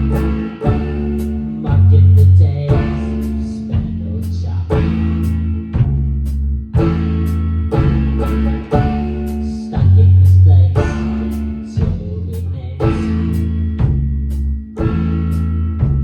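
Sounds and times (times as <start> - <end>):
bass guitar: 0.0 - 16.0
drum kit beat: 0.0 - 16.0.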